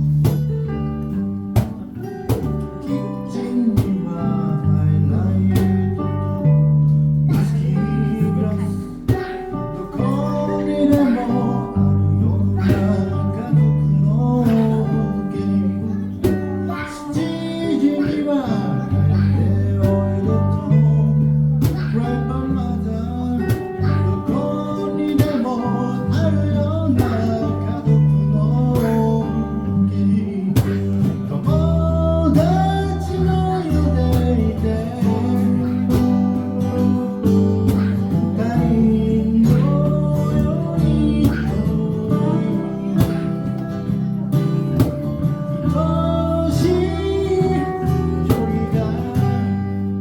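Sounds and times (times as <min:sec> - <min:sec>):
bass line: 0:00.0 - 0:50.0
drums: 0:00.0 - 0:50.0
strummed guitar: 0:00.0 - 0:50.0.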